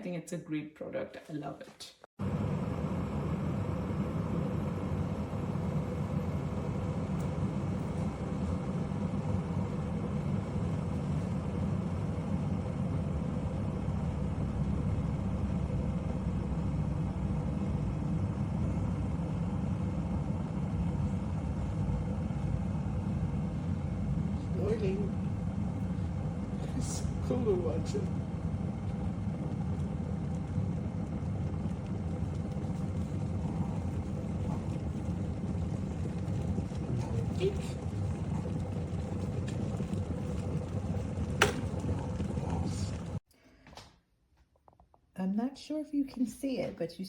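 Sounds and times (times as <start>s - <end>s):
electric kettle heating water: 2.2s - 43.3s.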